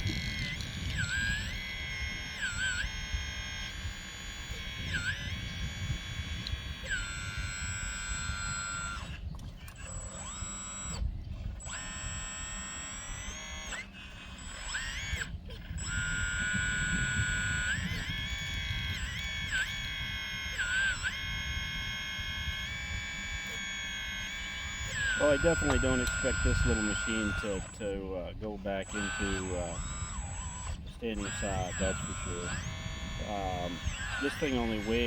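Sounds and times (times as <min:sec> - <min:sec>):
hydraulic whine: 0:00.0 - 0:35.0.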